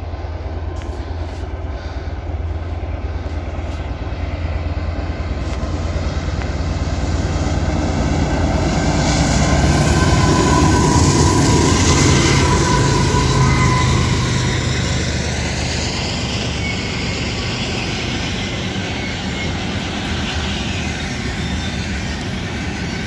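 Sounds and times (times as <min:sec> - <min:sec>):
locomotive engines rumbling: 0:00.0 - 0:23.0
steady whine: 0:00.0 - 0:23.0.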